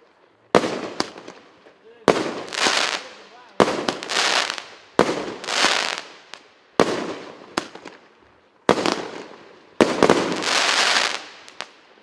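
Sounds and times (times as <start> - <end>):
firework hiss and crackle: 0.0 - 12.0
firework bangs: 0.5 - 11.8.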